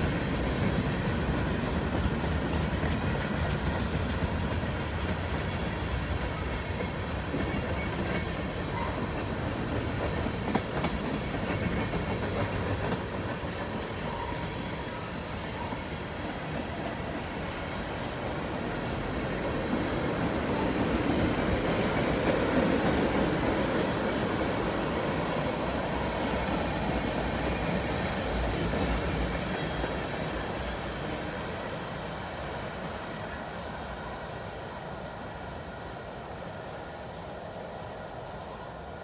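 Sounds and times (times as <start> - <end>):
freight train wheels rolling on rails: 0.0 - 39.0.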